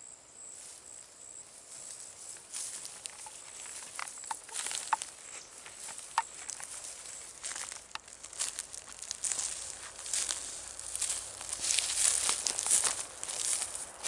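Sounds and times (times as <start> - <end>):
high insect buzz: 0.0 - 14.0
footsteps crunching in dry leaves: 0.5 - 14.0.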